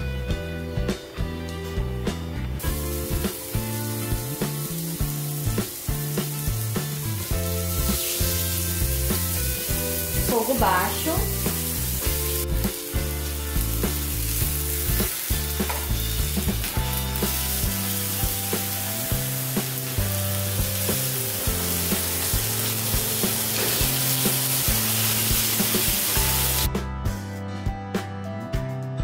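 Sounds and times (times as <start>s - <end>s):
chicken sizzling in frying pan: 2.6s - 26.7s.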